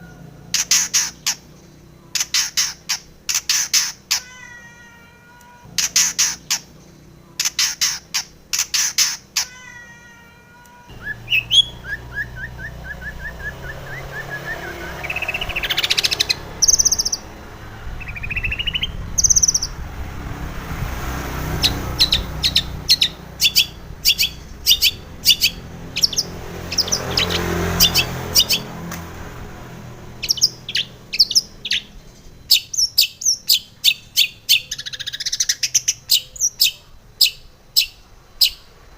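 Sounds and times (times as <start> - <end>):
shrike singing harsh calls: 0.0 - 38.8.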